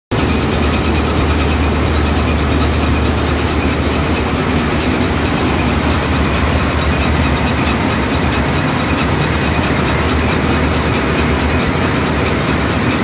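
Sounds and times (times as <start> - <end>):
diesel engine room machinery: 0.1 - 13.0.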